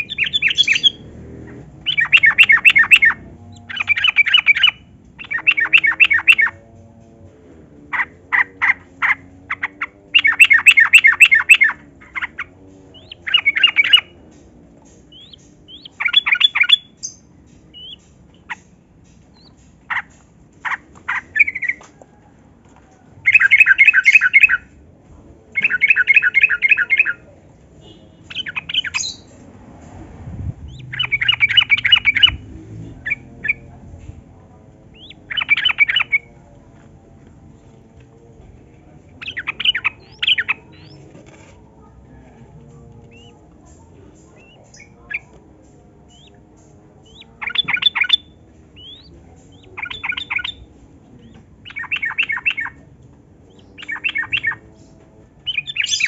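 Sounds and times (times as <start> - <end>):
bird chattering song: 0.0 - 7.1, 7.9 - 21.8, 23.2 - 24.7, 25.6 - 29.3, 30.6 - 34.1, 34.7 - 36.4, 38.4 - 42.3, 43.0 - 56.0.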